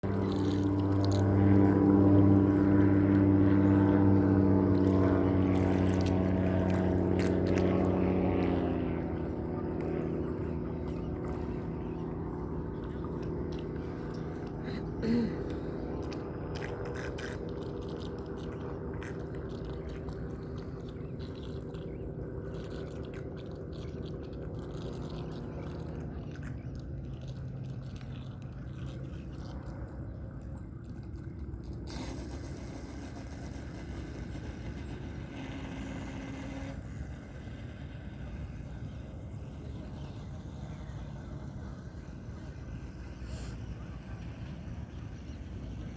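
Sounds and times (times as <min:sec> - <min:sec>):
model boat motor humming: 0:00.0 - 0:45.9.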